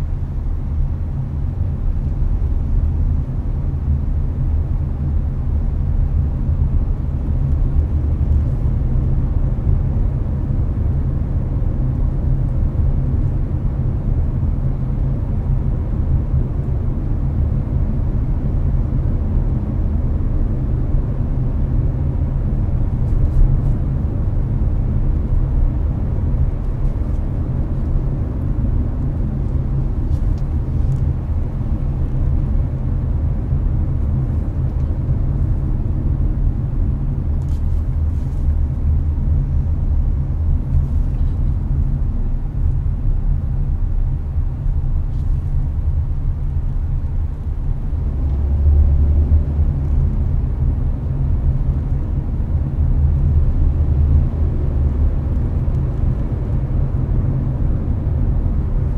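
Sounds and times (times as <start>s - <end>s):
air conditioner fan blowing: 0.0s - 58.9s
car interior road rumble: 0.0s - 58.9s.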